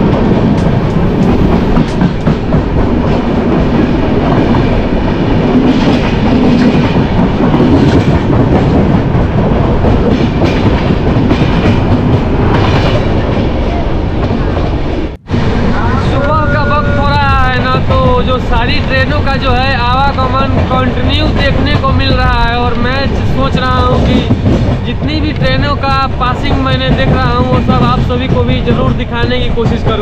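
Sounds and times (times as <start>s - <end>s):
train wheels clattering on track: 0.0s - 13.5s, 17.3s - 30.0s.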